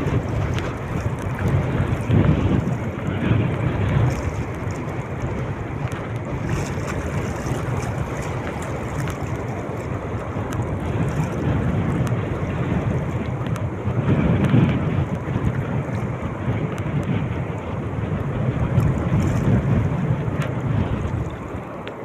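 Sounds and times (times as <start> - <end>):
sea water rushing: 0.0 - 22.0
wind buffeting microphone: 0.0 - 22.0.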